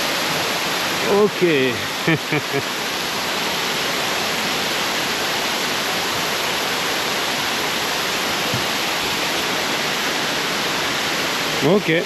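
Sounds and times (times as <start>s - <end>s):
water pouring down a waterfall: 0.0s - 12.0s.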